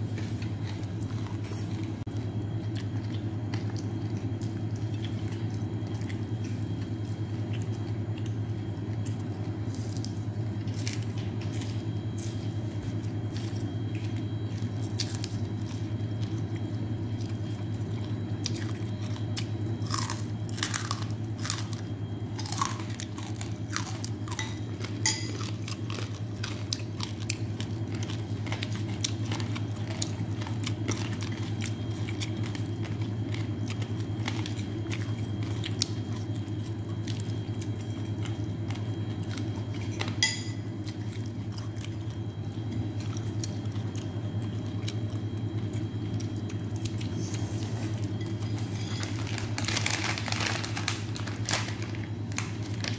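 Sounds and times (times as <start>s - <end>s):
person chewing and crunching: 0.0s - 52.9s
steady low hum: 0.0s - 52.9s.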